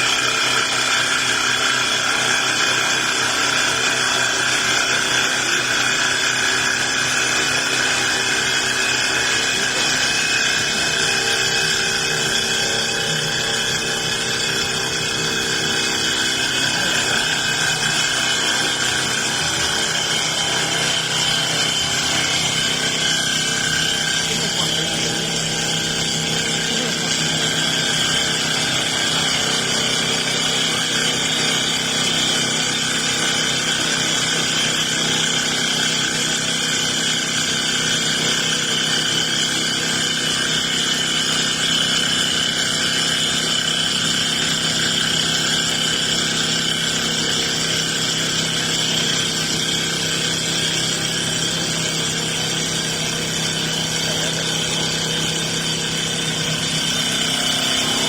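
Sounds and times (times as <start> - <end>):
lathe machine drone: 0.0 - 58.0.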